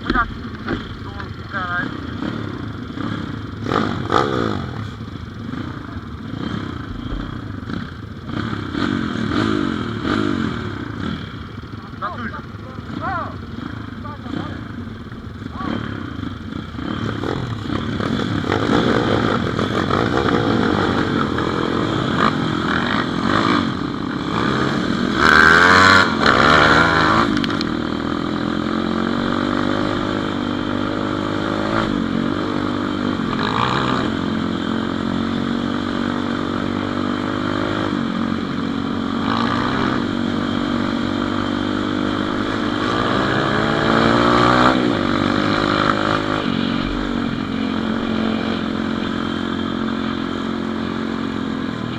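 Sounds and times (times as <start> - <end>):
pit bike engine revving: 0.0 - 51.9.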